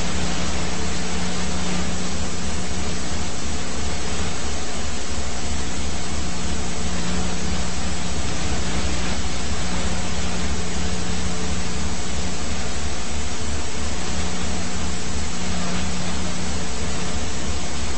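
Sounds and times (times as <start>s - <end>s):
steady hum: 0.0s - 17.9s.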